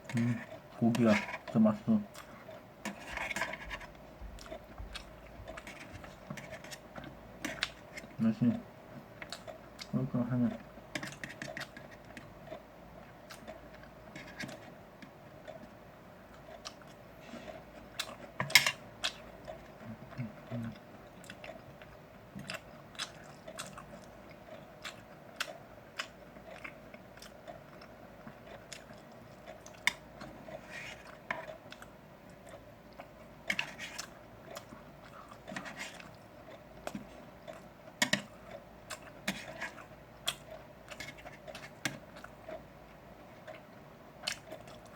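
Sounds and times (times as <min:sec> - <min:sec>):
person chewing food: 0:00.0 - 0:10.0, 0:10.6 - 0:44.9
faint steady hum: 0:00.0 - 0:44.9.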